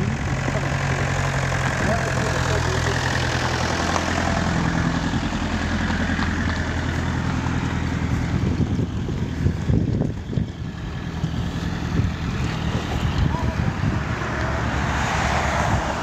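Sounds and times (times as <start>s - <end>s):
outdoor background noise: 0.0s - 16.0s
vehicle engine idling: 0.0s - 16.0s.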